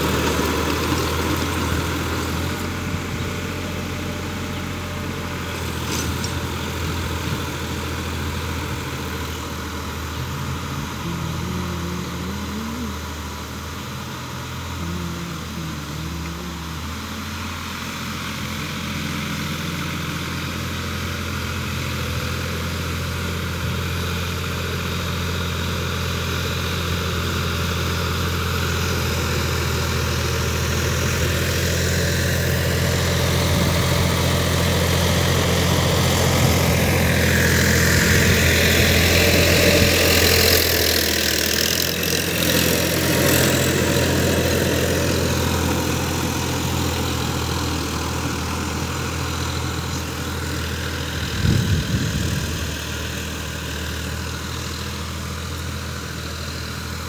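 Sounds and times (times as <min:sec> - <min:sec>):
high-pitched tiller noise: 0:00.0 - 0:57.0
tractor diesel engine running: 0:00.0 - 0:57.0.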